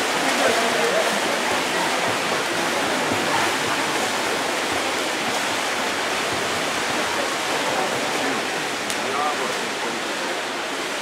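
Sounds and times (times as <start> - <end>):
water splashing in swimming pool: 0.0 - 11.0.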